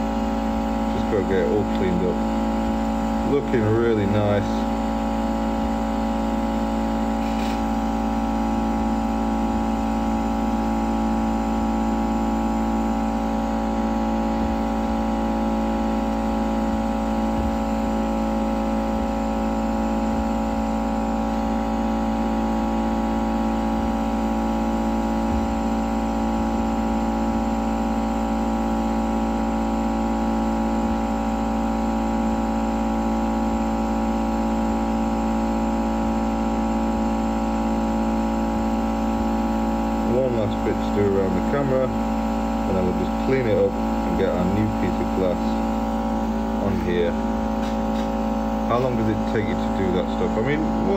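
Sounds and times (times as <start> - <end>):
hot air gun humming: 0.0 - 33.1, 37.9 - 50.9.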